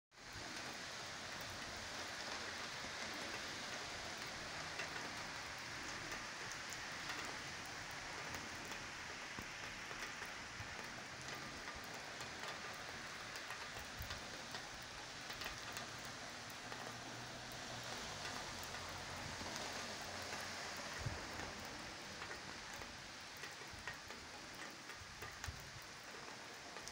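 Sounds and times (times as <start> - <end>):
heavy rain on wet paving: 0.1 - 26.9.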